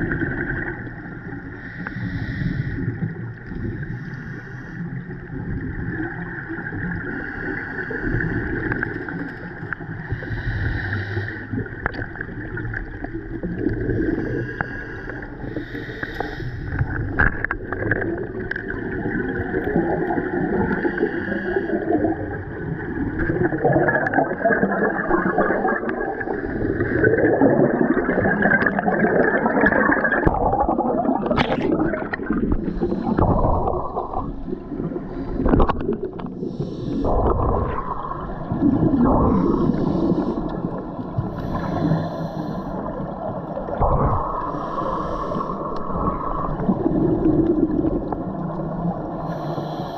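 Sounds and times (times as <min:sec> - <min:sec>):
exhaled bubbles gurgling: 0:00.0 - 0:49.9
underwater regulator breathing: 0:01.4 - 0:05.2, 0:07.0 - 0:12.9, 0:13.5 - 0:18.7, 0:19.6 - 0:22.4, 0:23.2 - 0:49.9.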